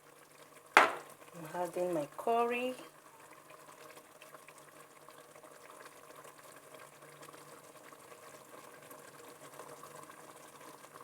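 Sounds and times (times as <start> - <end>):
sauce bubbling in a pot: 0.0 - 11.0.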